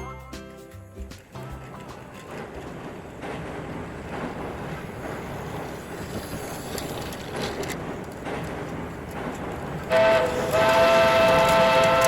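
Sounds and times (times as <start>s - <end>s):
train running: 0.0s - 12.0s.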